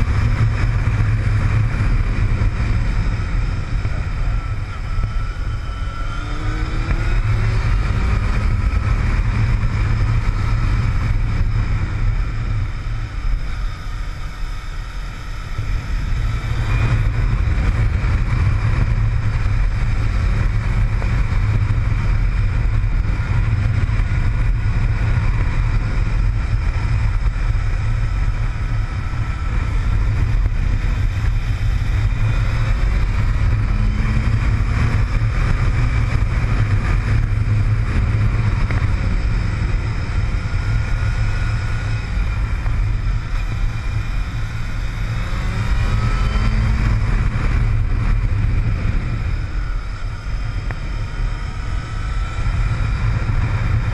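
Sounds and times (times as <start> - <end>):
motorcycle engine revving: 0.0 - 53.9
wind noise on microphone: 0.0 - 53.9.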